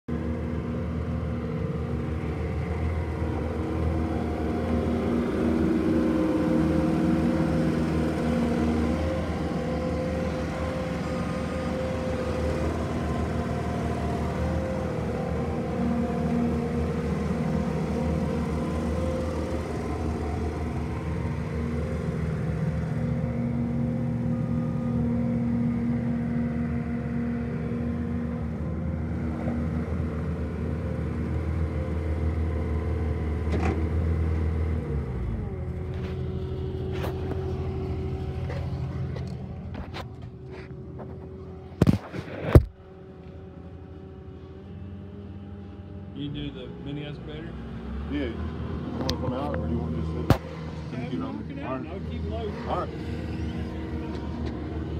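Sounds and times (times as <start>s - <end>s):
diesel engine running: 0.1s - 54.9s.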